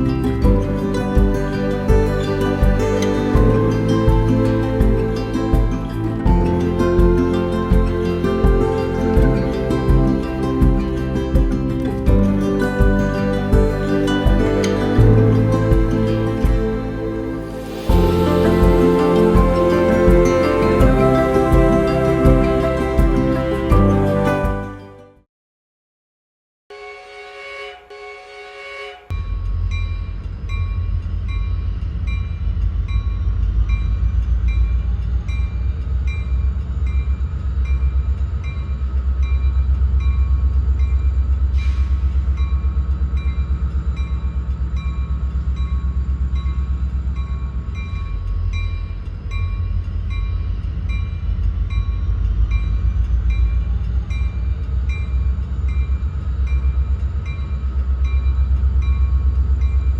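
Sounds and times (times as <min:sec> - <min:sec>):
train rumbling: 0:00.0 - 0:24.8, 0:29.1 - 0:59.9.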